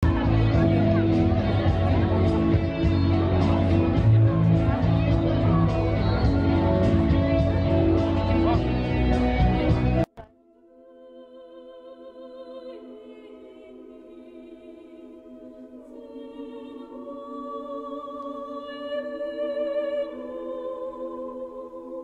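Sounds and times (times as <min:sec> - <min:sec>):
choir singing slow chords: 0:00.0 - 0:22.0.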